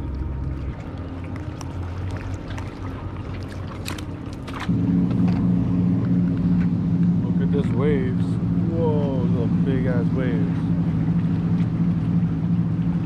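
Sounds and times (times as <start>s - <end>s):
low motor drone: 0.0s - 13.0s.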